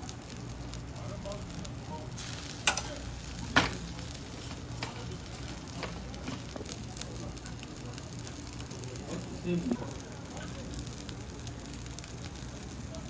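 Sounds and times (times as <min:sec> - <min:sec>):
eel sizzling on a grill: 0:00.0 - 0:13.0.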